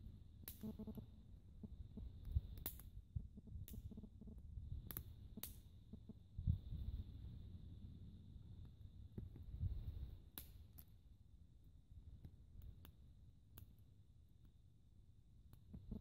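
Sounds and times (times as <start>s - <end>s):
faint low rumble: 0.0s - 12.8s.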